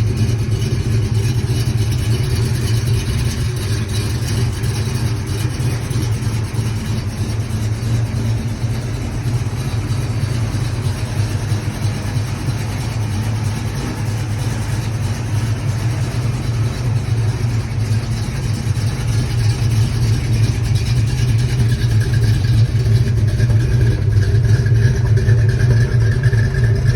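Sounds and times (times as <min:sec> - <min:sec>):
car engine drone with clatter: 0:00.0 - 0:26.9.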